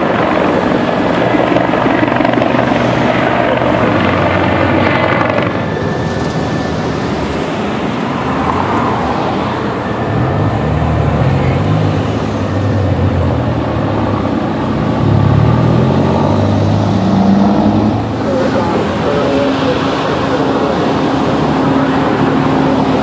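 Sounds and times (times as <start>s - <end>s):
freeway traffic rushing: 0.0s - 23.0s
vehicle engine low drone: 0.0s - 23.0s.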